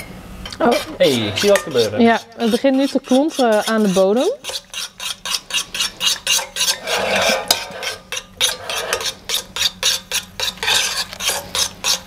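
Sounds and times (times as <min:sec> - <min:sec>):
metal spoon scraping steel pot: 0:00.4 - 0:12.0.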